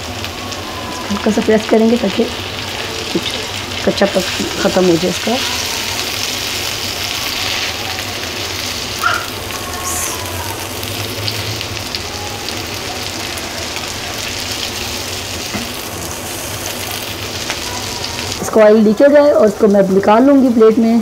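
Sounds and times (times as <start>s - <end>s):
oil crackling: 0.0s - 20.3s
meat sizzling in hot oil: 0.0s - 21.0s.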